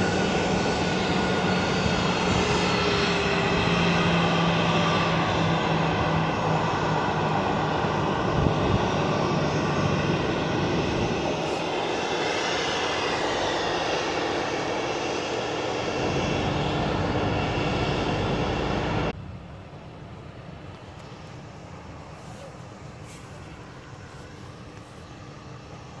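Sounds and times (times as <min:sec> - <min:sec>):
jet engines whining and rumbling: 0:00.0 - 0:26.0.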